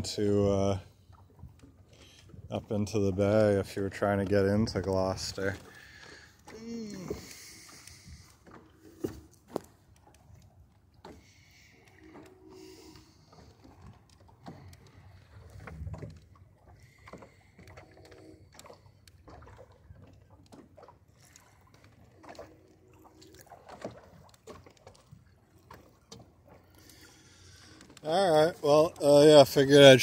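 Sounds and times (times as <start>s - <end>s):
boat knocks and creaks: 0.0s - 30.0s
water lapping along a hull: 0.0s - 30.0s.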